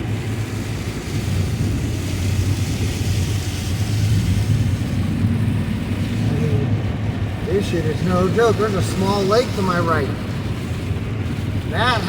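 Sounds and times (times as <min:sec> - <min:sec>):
engine and tyre drone: 0:00.0 - 0:12.0
tyres hissing on wet road: 0:00.0 - 0:12.0.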